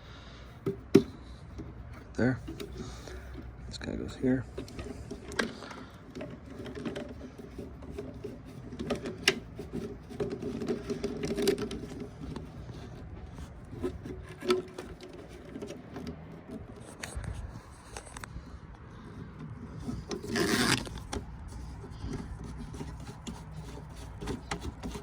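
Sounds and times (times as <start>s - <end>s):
steady low hum: 0.0s - 25.0s
plastic hose fittings clicking: 0.5s - 3.6s, 4.5s - 18.3s, 19.2s - 25.0s.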